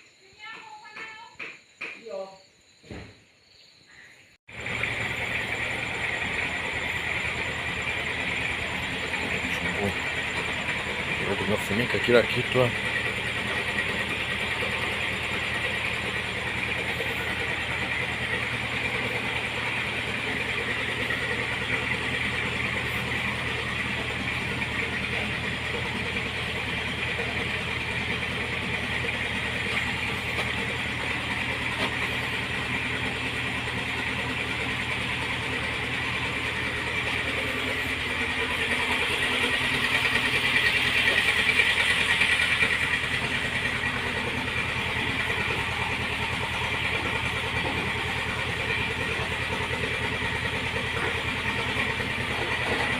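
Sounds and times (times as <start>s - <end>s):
tractor diesel engine running: 4.5s - 52.9s.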